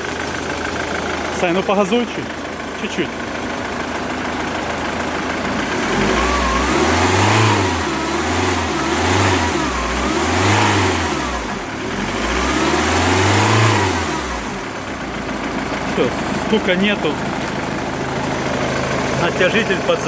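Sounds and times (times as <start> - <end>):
diesel engine revving: 0.0 - 20.0.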